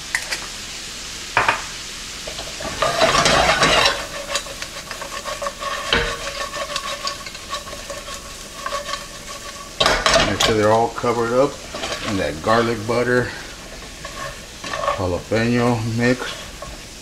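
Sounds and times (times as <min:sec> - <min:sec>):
chicken wings sizzling in skillet: 0:00.0 - 0:17.0
food sliding and rattling in pan: 0:02.2 - 0:17.0.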